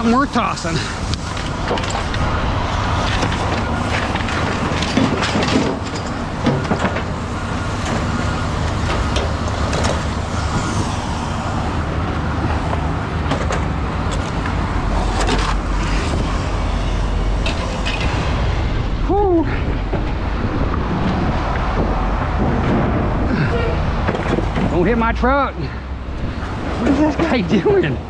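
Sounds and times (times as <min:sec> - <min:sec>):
heavy vehicle engine rumbling: 0:00.0 - 0:28.0.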